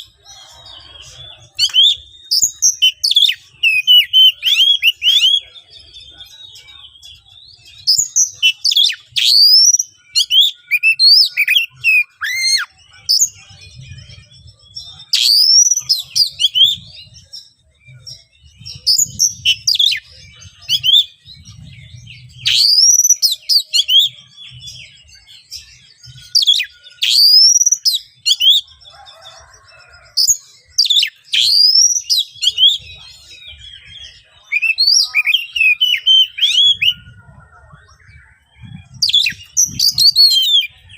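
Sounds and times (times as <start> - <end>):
bird singing harsh whistled song: 0.0 - 40.9.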